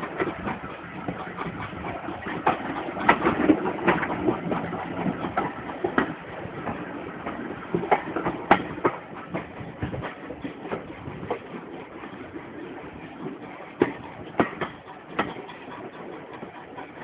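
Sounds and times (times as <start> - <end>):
train rumble: 0.0 - 17.0
train wheels clicking over joints: 0.0 - 17.0.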